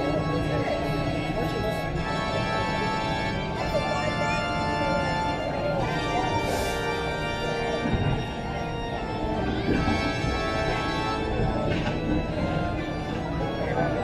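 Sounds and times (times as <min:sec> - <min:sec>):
organ music with held chords: 0:00.0 - 0:14.0.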